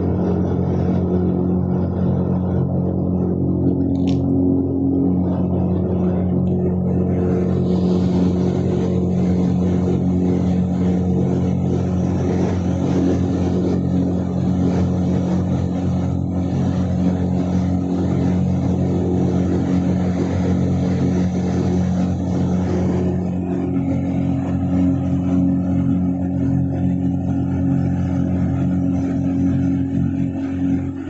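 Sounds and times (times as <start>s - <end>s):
ventilation fan droning: 0.0s - 31.0s.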